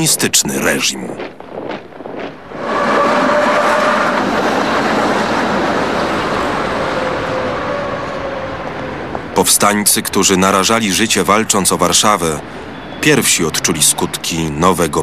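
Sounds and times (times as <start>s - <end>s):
passing vehicles rushing: 2.4s - 14.8s.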